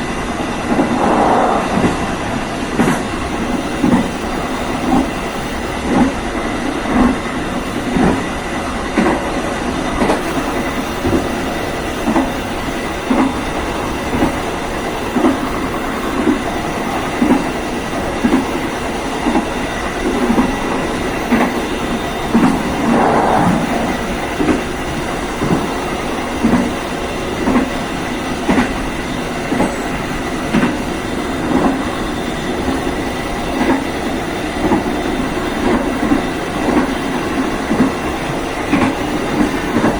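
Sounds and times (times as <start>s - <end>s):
train running rumble: 0.0s - 39.9s
train wheels knocking on rail joints: 2.6s - 39.9s.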